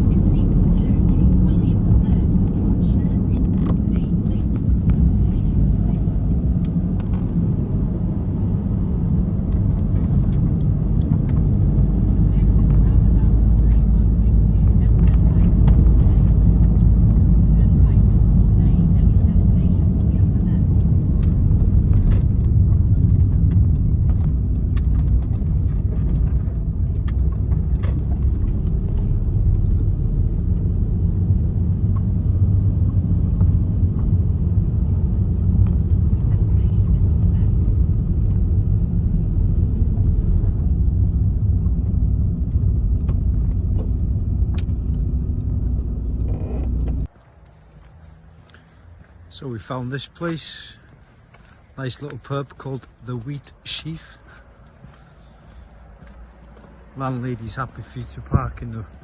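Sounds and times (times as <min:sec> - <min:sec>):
van road and engine rumble: 0:00.0 - 0:59.0.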